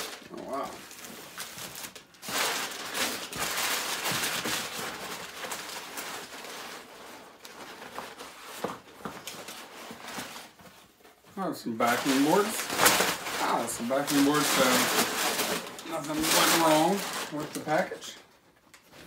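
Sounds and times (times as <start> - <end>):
packing paper crinkling: 0.0 - 11.1, 11.7 - 19.0.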